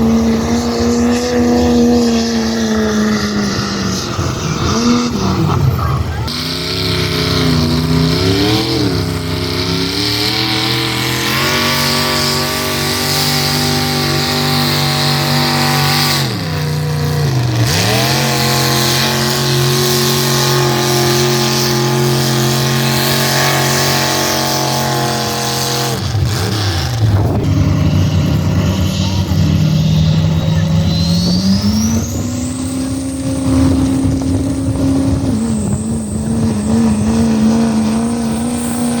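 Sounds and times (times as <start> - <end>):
vehicle engine at high revs: 0.0 - 39.0.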